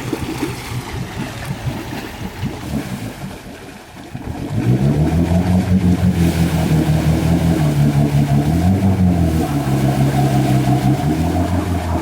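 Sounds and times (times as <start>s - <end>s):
car engine rumbling and revving: 0.0s - 12.0s.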